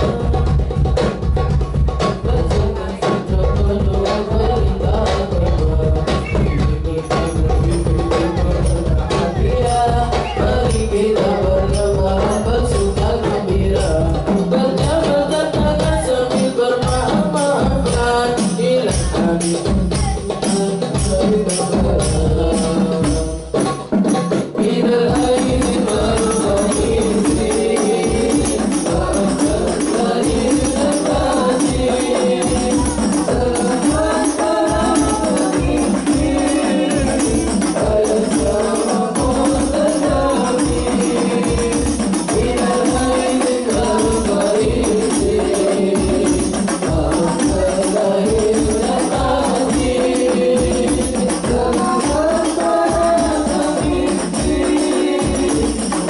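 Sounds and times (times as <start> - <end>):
frame drums with jingles: 0.0 - 56.0
male voices singing devotional song: 0.0 - 56.0.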